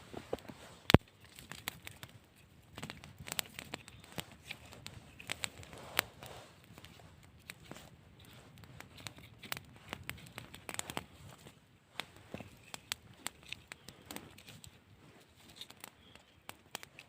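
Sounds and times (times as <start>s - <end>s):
irregular crackling and clicking: 0.0s - 17.0s.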